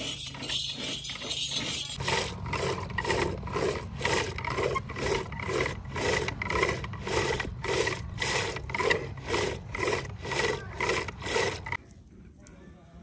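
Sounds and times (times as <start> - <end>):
rhythmic rasping and rubbing: 0.0 - 11.8.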